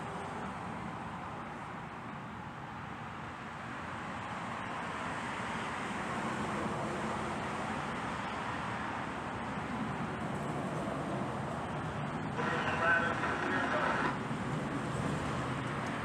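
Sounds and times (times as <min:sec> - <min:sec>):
vehicle noise hiss and rumble: 0:00.0 - 0:16.0.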